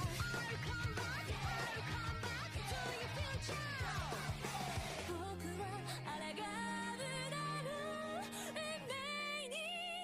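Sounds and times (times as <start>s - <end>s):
pop song with vibrato singing: 0.0s - 10.0s.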